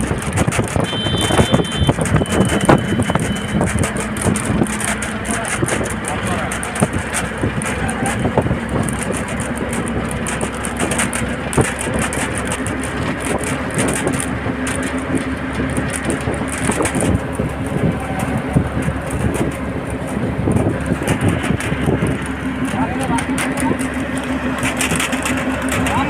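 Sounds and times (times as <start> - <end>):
bus body rattling and knocking: 0.0 - 26.0
bus engine hum: 0.0 - 26.0
road and wind noise: 0.0 - 26.0.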